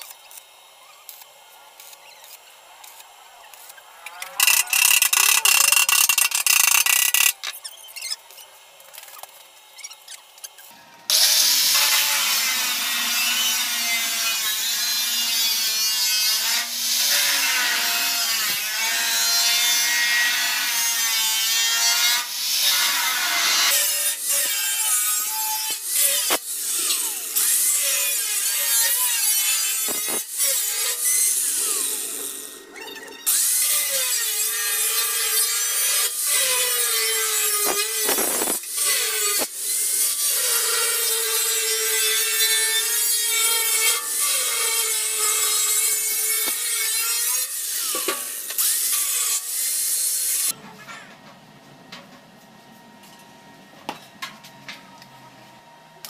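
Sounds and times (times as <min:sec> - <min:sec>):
angle grinder cutting metal: 0:00.0 - 0:08.4, 0:10.3 - 0:50.6.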